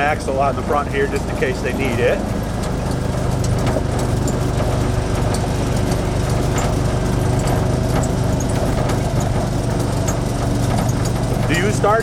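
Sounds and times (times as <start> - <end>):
light rattles: 0.0 - 12.0
utility vehicle engine at low revs: 0.0 - 12.0.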